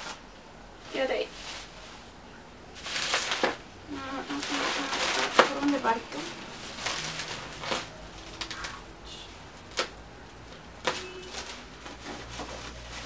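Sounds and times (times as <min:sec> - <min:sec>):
bubble wrap rustling and crinkling: 0:00.8 - 0:02.1, 0:02.7 - 0:13.0.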